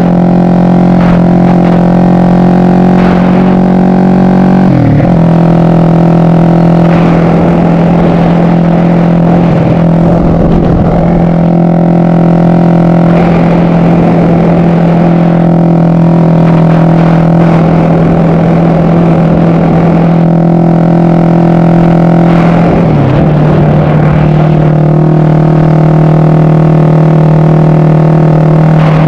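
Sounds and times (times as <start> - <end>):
motorcycle engine running steady: 0.0 - 29.0.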